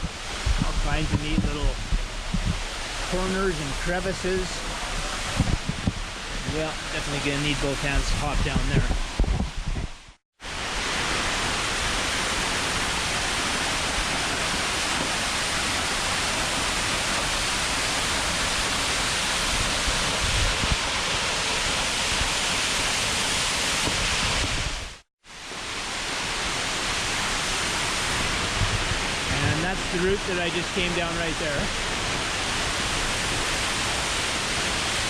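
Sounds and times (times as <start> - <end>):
waterfall rushing: 0.0 - 5.4, 10.5 - 24.8, 25.4 - 35.0.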